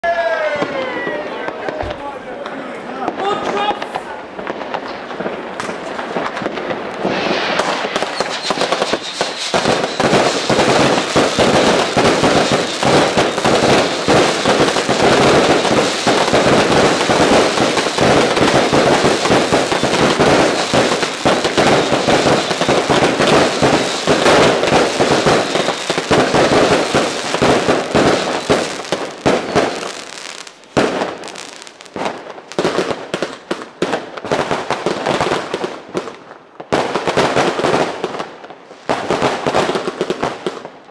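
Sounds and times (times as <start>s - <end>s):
fireworks crackling and banging: 0.5s - 40.9s.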